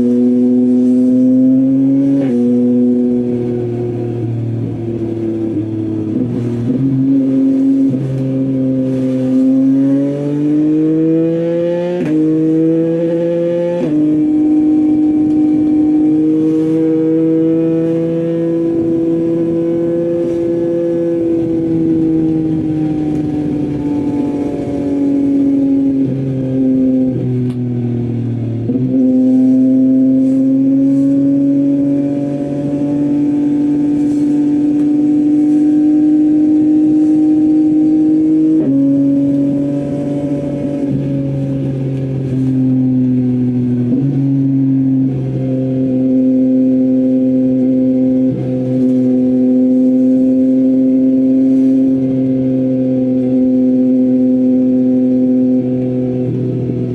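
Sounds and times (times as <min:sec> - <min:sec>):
gear changes: 0:00.0 - 0:56.9
motorcycle engine revving: 0:00.0 - 0:56.9.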